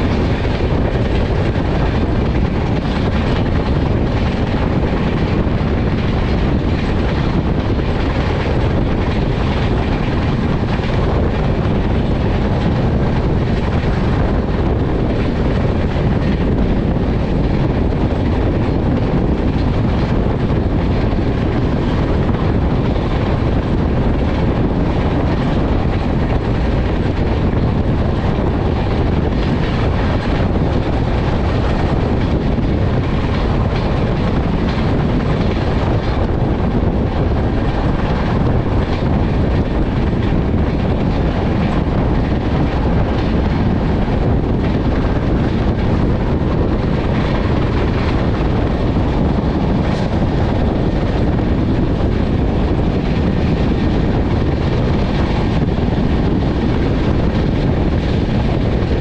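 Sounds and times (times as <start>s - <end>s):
train rumbling at speed: 0.0s - 59.0s.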